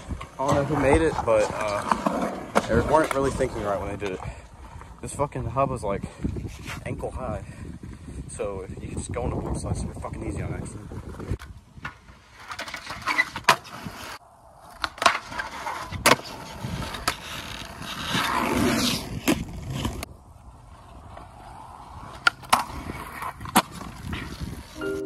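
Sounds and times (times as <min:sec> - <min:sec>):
skateboard wheels rolling on concrete: 0:00.0 - 0:25.0.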